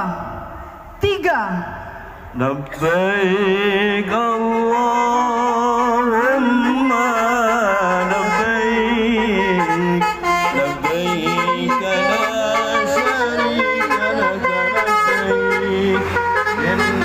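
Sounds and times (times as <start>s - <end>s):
middle eastern style melody: 3.0s - 17.0s.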